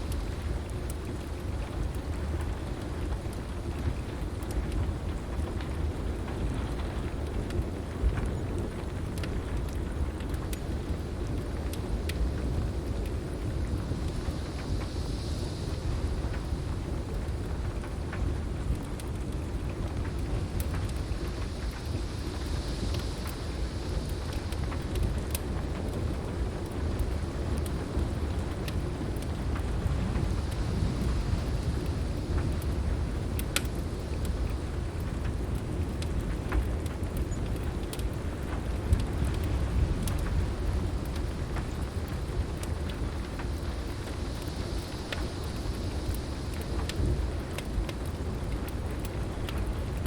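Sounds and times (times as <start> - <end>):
heavy rain falling: 0.0 - 50.0
low thunder rumble: 0.0 - 50.0
wood fire crackling: 0.0 - 50.0.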